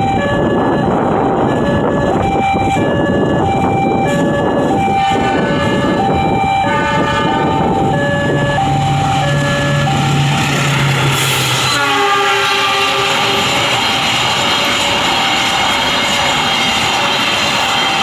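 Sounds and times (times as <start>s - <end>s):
level crossing two-tone alarm: 0.0s - 10.4s, 12.5s - 18.0s
train rumbling: 0.0s - 18.0s.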